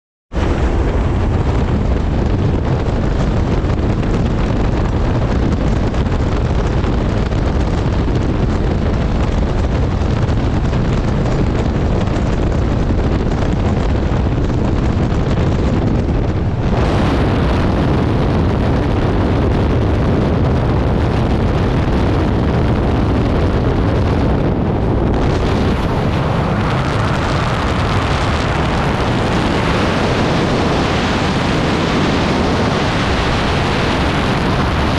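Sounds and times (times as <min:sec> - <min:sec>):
wind buffeting microphone: 0:00.3 - 0:34.9.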